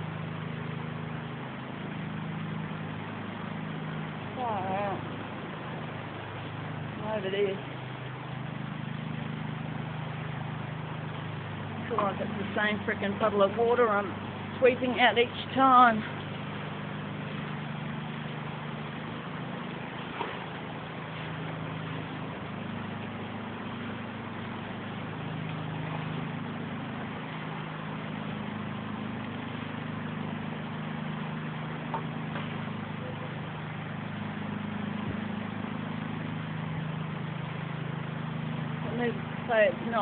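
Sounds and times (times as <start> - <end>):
low steady drone: 0.0 - 40.0.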